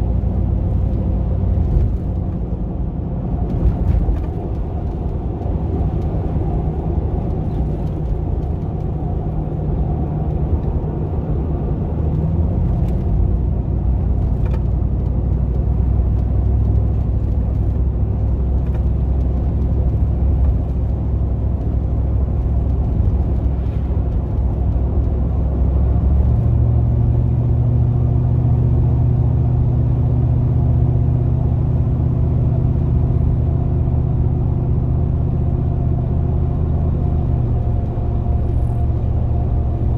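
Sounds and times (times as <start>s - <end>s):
van engine droning: 0.0s - 39.9s.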